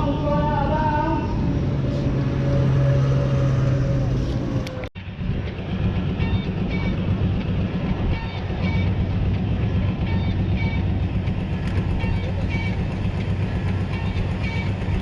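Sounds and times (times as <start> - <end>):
tractor engine running loudly: 1.3 - 15.0.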